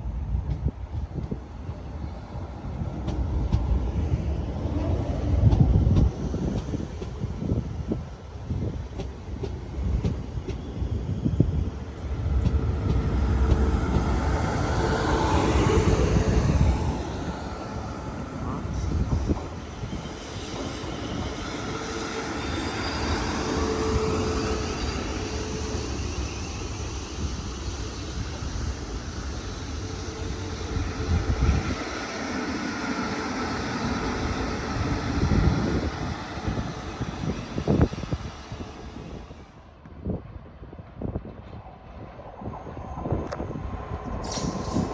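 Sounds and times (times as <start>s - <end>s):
train passing: 0.0s - 44.9s
wind buffeting microphone: 0.0s - 44.9s.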